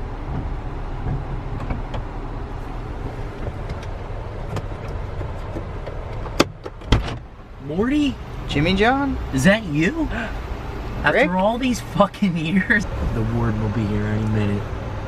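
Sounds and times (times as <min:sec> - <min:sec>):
vehicle running low rumble: 0:00.0 - 0:15.0.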